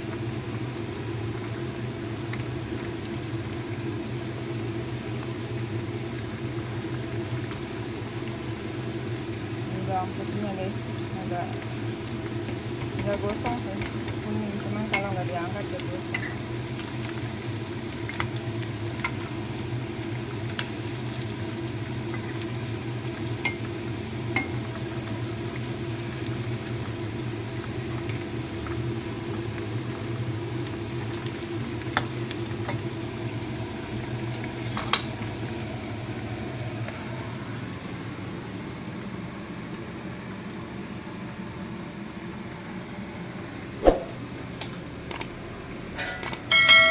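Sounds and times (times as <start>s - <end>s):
chicken deep-frying in oil: 0.0s - 43.6s, 44.4s - 46.9s.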